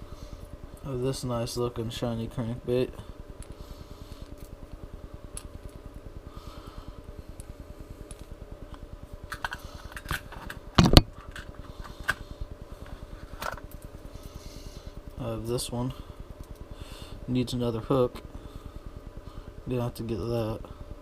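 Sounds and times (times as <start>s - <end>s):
fluttering background hum: 0.0s - 21.0s.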